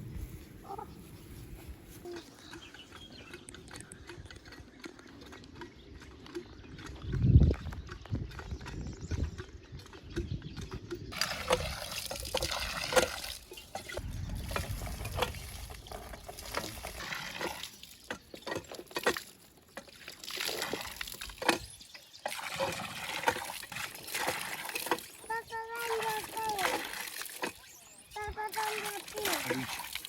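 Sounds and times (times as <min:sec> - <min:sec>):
water splashing and trickling: 0:00.0 - 0:30.0.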